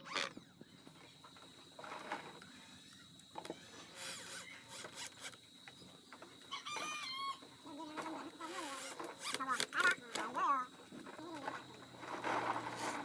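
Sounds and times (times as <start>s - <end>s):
hand tools working wood: 0.8s - 13.0s.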